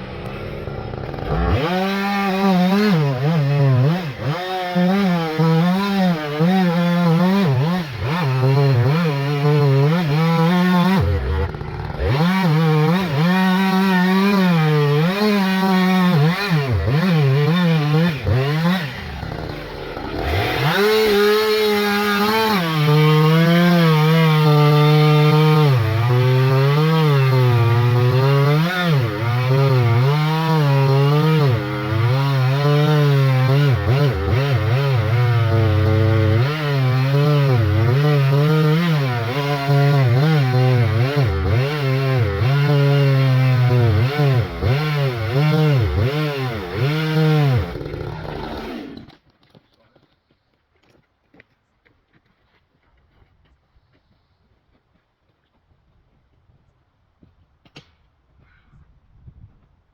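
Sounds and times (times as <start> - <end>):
chainsaw cutting wood: 0.0 - 49.5.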